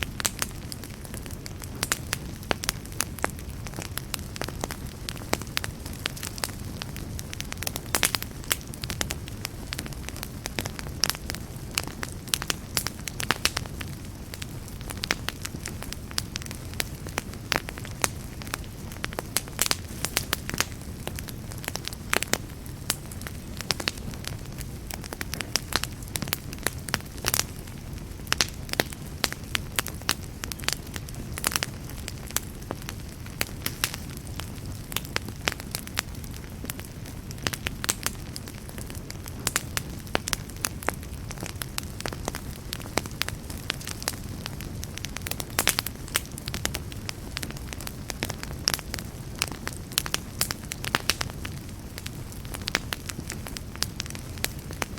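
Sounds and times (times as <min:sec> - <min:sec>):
campfire low rumble: 0:00.0 - 0:54.9
fire crackles and pops: 0:00.0 - 0:54.9.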